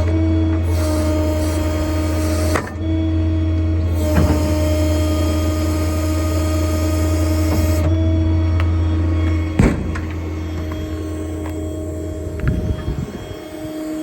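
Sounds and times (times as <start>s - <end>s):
diesel engine and equipment running: 0.0s - 14.0s.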